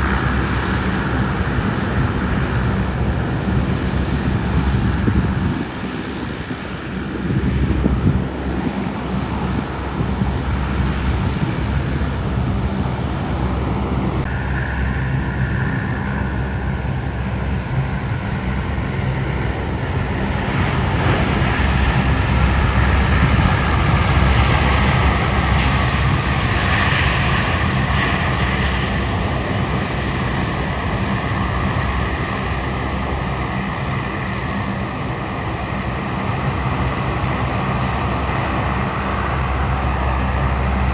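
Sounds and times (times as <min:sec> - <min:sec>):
airliner engines rumbling: 0:00.0 - 0:40.9
jet engine whine: 0:00.0 - 0:40.9.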